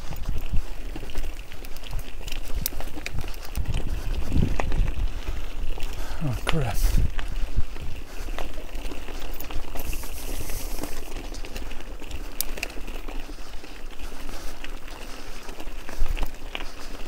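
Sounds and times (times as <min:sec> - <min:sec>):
bicycle tyres on rough track: 0:00.0 - 0:17.0.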